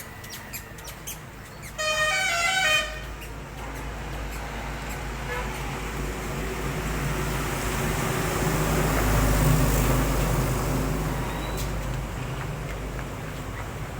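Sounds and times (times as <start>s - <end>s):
vehicle engine humming: 0.0s - 13.9s.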